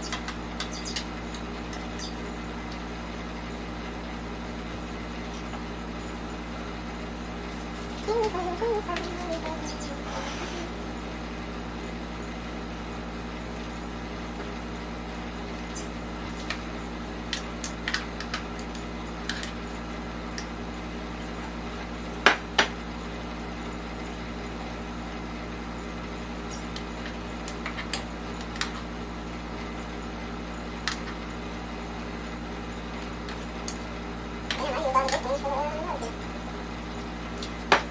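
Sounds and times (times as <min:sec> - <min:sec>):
kitchen appliance humming: 0:00.0 - 0:37.9.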